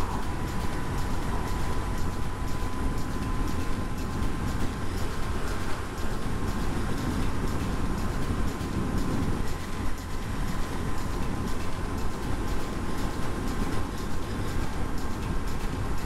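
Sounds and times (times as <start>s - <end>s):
motorcycle engine drone: 0.0s - 13.0s
wind on microphone: 0.0s - 16.0s.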